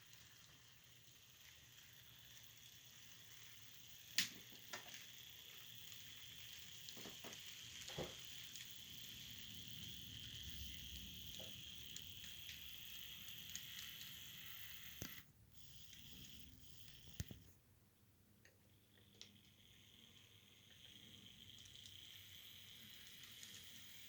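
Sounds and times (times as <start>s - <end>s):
model locomotive motor whirring: 0.0s - 17.5s, 18.7s - 24.0s.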